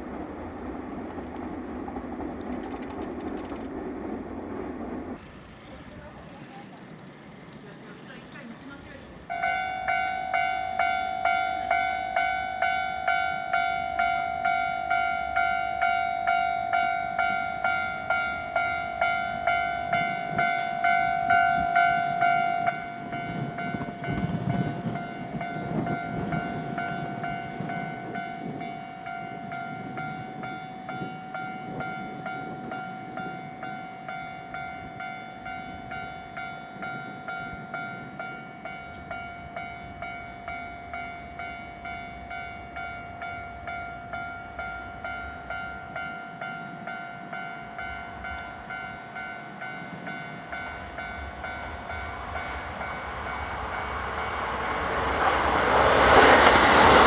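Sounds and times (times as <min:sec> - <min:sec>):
train rumbling past: 0:00.0 - 0:57.0
railroad crossing bell ringing: 0:05.2 - 0:57.0.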